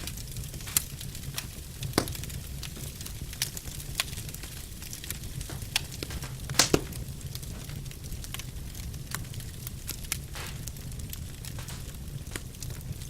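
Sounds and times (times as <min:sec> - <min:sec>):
flames rumbling: 0:00.0 - 0:13.0
logs crackling and popping: 0:00.0 - 0:13.0.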